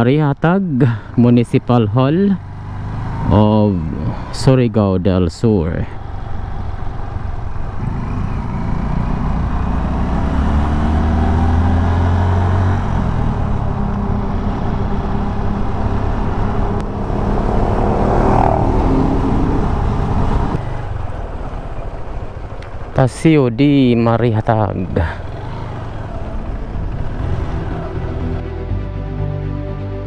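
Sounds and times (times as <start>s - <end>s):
road noise: 0.0s - 30.0s
vehicle engine accelerating: 1.0s - 4.7s, 5.8s - 29.2s.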